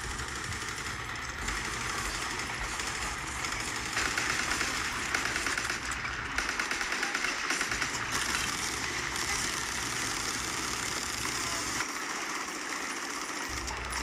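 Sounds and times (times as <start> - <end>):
rapid machine-gun fire: 0.0 - 14.0.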